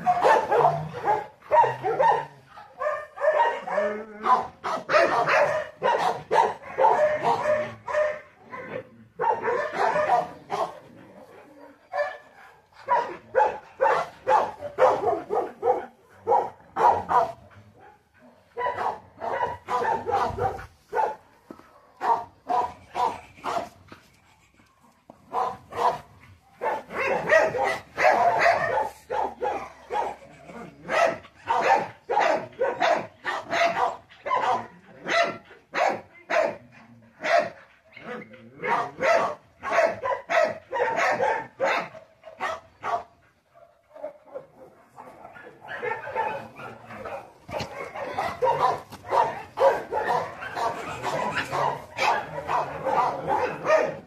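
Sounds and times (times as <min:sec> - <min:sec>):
young dog barking: 0:00.0 - 0:10.8, 0:11.6 - 0:21.2, 0:21.8 - 0:23.8, 0:25.3 - 0:36.6, 0:37.2 - 0:54.0.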